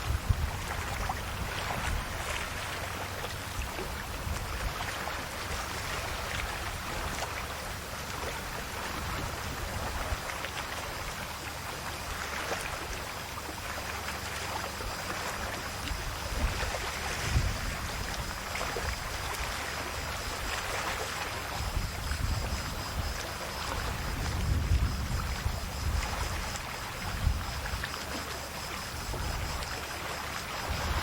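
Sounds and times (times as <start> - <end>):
waves washing onto shore: 0.0 - 31.0.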